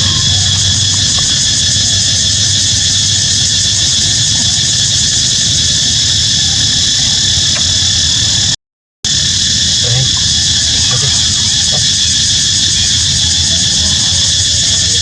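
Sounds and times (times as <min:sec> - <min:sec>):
cicadas droning: 0:00.0 - 0:15.0
low outdoor rumble: 0:00.0 - 0:15.0.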